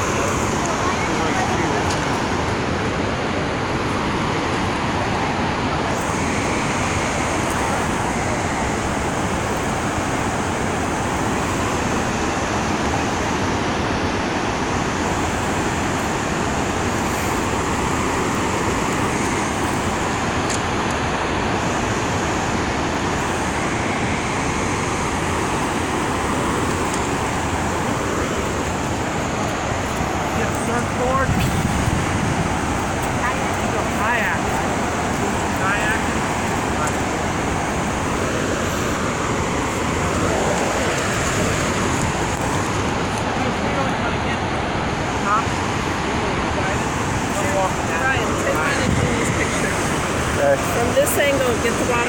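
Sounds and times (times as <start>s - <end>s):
water rushing through flood gates: 0.0s - 52.0s.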